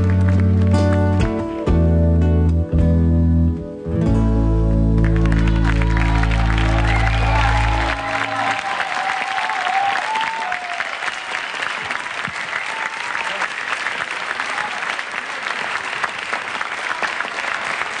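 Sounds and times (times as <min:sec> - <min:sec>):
audience applauding: 0:00.0 - 0:01.5, 0:04.9 - 0:18.0.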